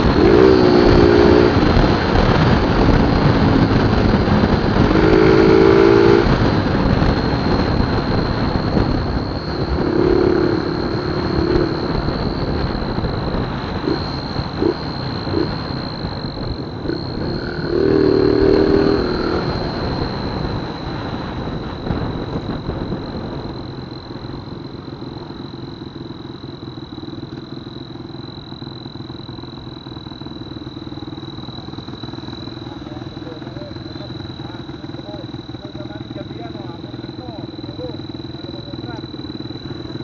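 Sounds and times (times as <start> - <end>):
high exhaust whistle tone: 0.0 - 40.0
motorcycle engine revving and idling: 0.0 - 40.0.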